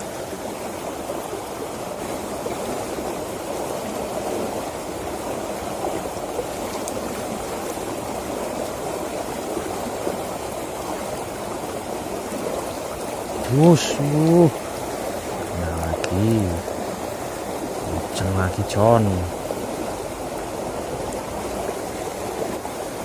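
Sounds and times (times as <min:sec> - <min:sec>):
water rushing in a ditch: 0:00.0 - 0:23.0.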